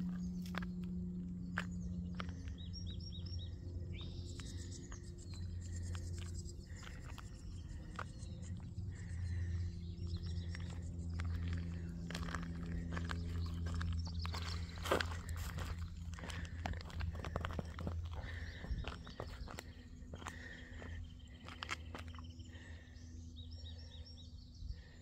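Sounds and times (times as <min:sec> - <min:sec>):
footsteps on pavement: 0:00.0 - 0:22.8
low steady hum: 0:00.0 - 0:25.0
small birds chirping: 0:00.0 - 0:25.0.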